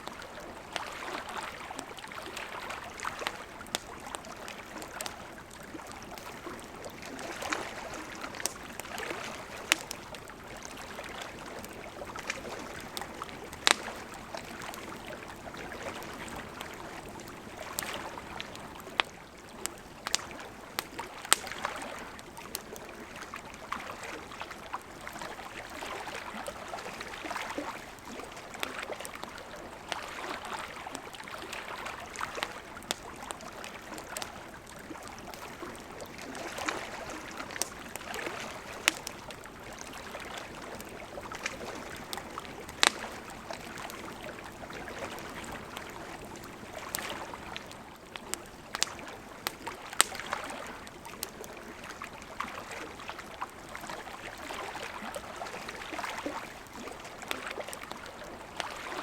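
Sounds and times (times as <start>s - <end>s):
campfire crackling: 0.0s - 59.0s
lake waves lapping on shore: 0.0s - 59.0s.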